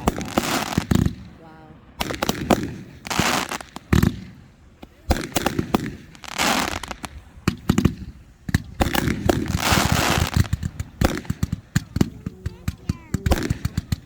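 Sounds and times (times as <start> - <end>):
fireworks cracking and popping: 0.0 - 14.0
fireworks hissing crackle: 0.0 - 14.0.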